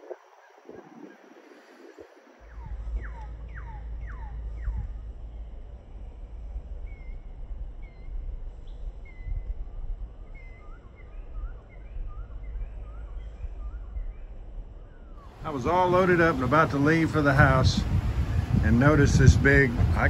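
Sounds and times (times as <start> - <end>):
birds chirping: 0.0 - 20.0
low steady rumble: 0.0 - 20.0.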